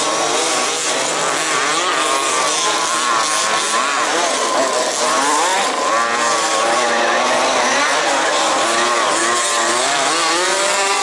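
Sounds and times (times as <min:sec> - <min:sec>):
rc car engines buzzing: 0:00.0 - 0:11.0.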